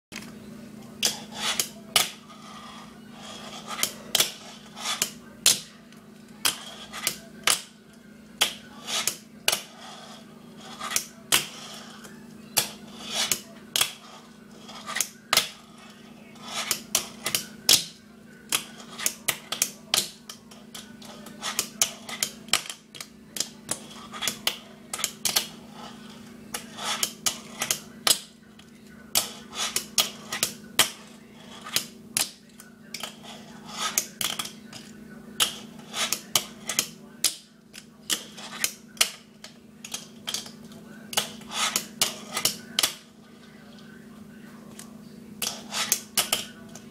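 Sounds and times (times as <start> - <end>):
steady low hum: 0.1 - 46.9.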